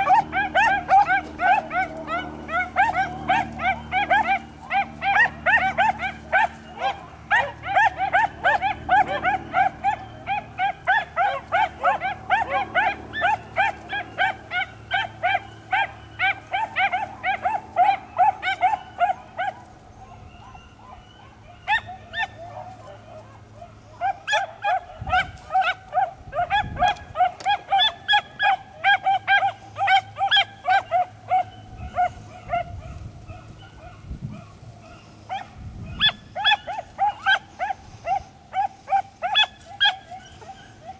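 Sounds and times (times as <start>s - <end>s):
dog barking rapidly: 0.0s - 19.6s, 24.0s - 40.9s.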